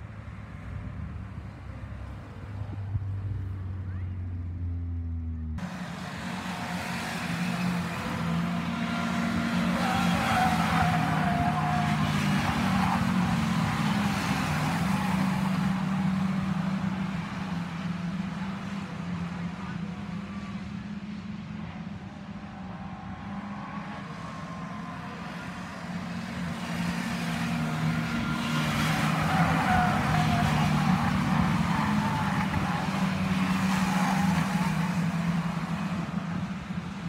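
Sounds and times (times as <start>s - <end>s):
racing car engines: 0.0s - 37.0s.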